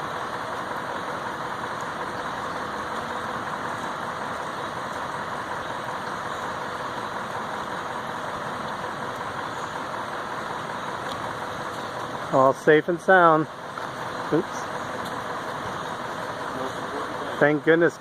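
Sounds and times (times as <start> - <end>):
vehicle engine idling hum: 0.0 - 18.0.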